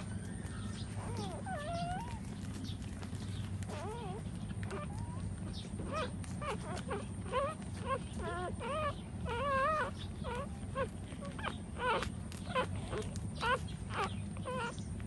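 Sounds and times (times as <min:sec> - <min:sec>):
puppies whimpering and squealing: 0:00.0 - 0:15.0
steady low hum: 0:00.0 - 0:15.0.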